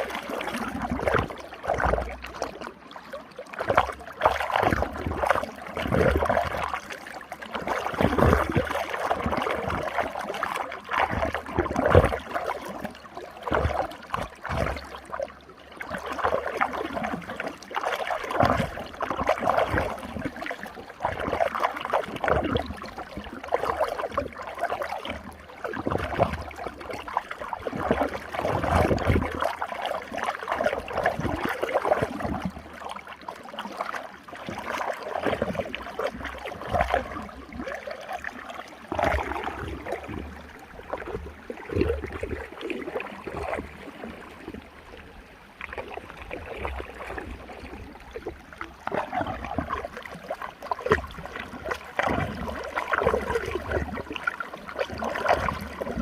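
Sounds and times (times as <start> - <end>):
water swirling in whirlpool: 0.0 - 56.0.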